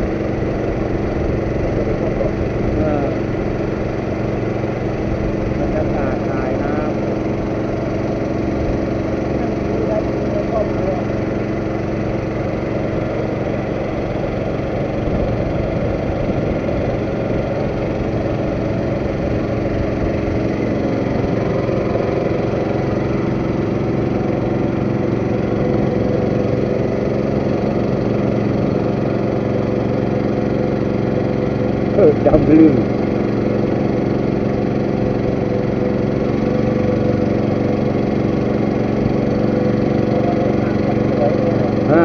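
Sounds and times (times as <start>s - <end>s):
boat engine running steadily: 0.0s - 42.0s.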